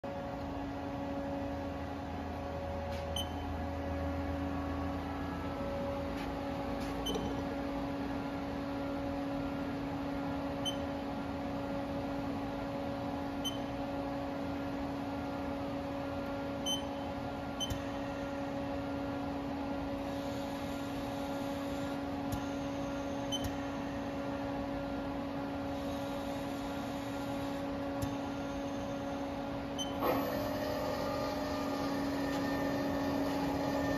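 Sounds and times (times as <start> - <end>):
shop machinery hum: 0.0 - 33.9.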